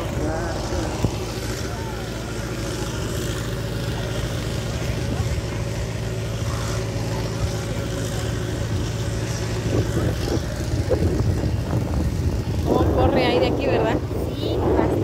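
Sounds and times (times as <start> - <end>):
engine humming steadily: 0.0 - 15.0
faint voices: 0.0 - 15.0.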